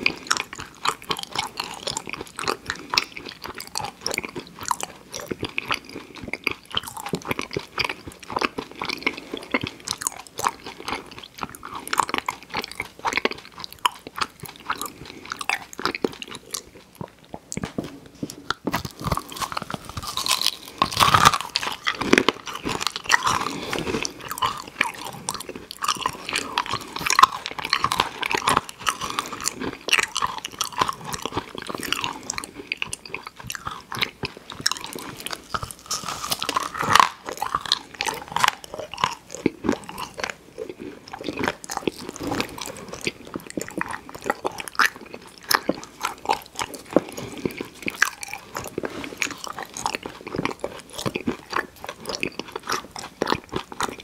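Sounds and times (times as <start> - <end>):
chewing and crunching candy: 0.0 - 54.0.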